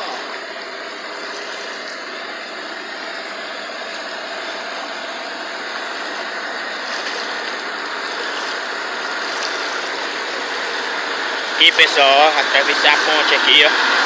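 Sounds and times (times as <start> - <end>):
rushing churned water: 0.0 - 14.0
tractor engine running: 0.0 - 14.0.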